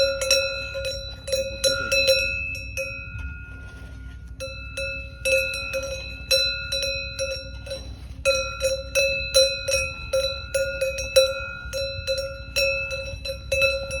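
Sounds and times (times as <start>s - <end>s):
cowbells clanking: 0.0s - 14.0s.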